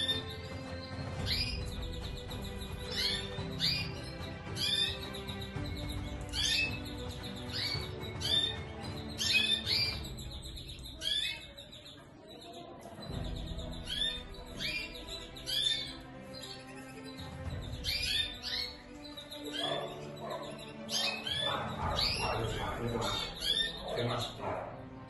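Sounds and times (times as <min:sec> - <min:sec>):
background music low notes: 0:00.0 - 0:25.0
canaries chirping: 0:00.0 - 0:25.0.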